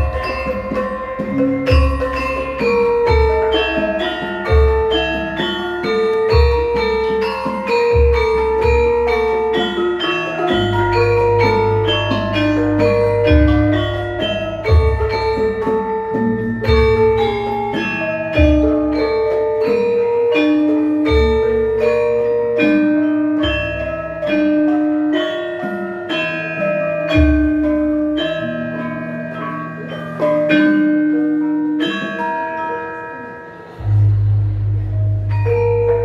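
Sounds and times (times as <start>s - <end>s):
metallophones ringing melody: 0.0s - 36.0s.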